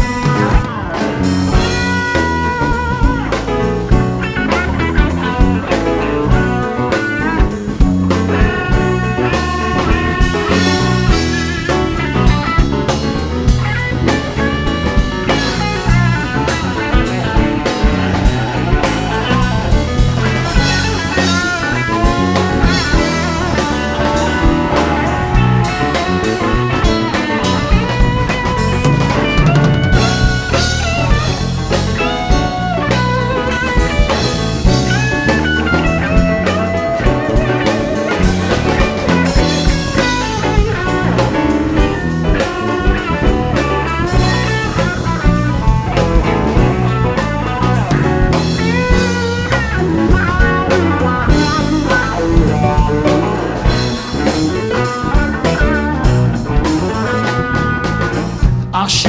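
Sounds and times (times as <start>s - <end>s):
drum kit: 0.0s - 59.0s
electric guitar solo: 0.0s - 59.0s.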